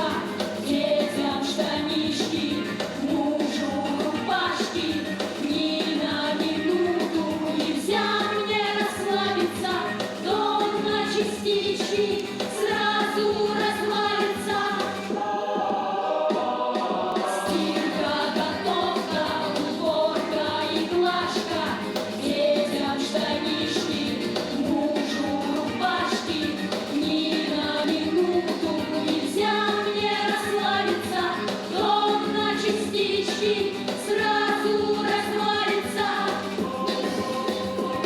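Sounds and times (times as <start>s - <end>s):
group singing with instruments: 0.0s - 38.0s.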